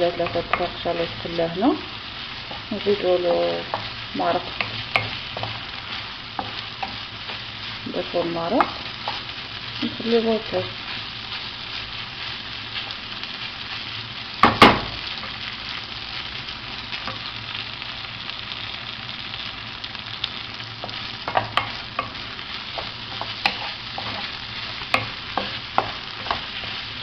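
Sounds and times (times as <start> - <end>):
rice sizzling in a pan: 0.0 - 27.0.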